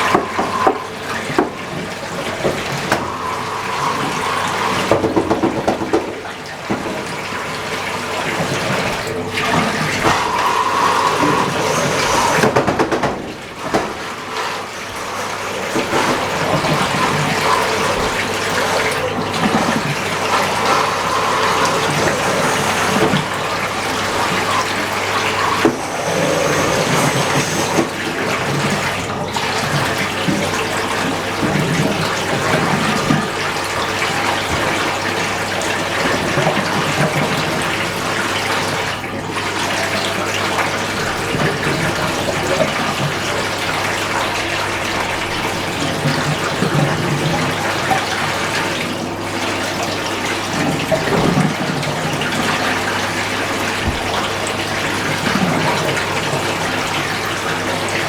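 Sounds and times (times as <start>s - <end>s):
water rushing through washing machine: 0.0s - 58.0s.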